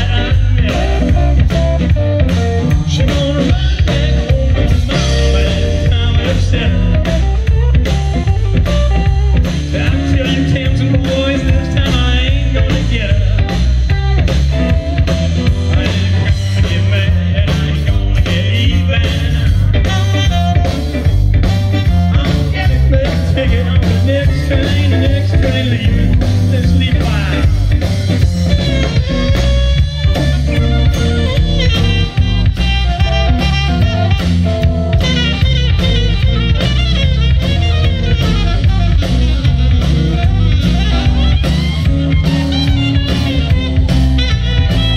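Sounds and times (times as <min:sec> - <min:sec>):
live blues band: 0:00.0 - 0:44.9.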